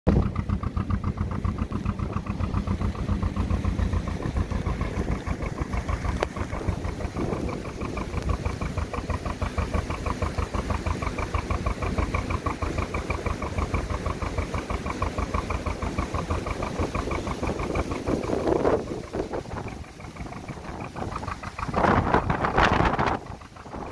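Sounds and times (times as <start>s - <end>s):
boat diesel engine running: 0.1s - 23.9s.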